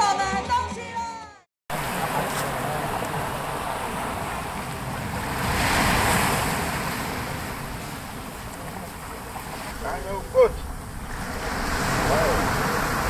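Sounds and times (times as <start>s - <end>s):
waves breaking on pebble beach: 1.7s - 13.0s.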